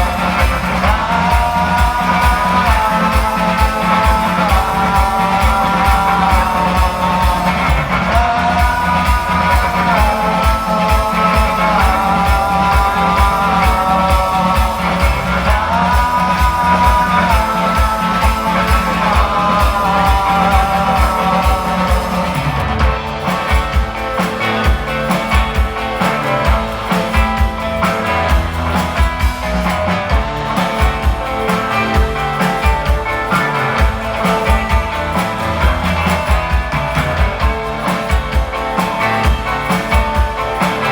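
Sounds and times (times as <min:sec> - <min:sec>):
bass guitar: 0:00.0 - 0:40.9
driving drum beat: 0:00.0 - 0:40.9
electric guitar: 0:00.0 - 0:40.9
person singing: 0:00.0 - 0:40.9.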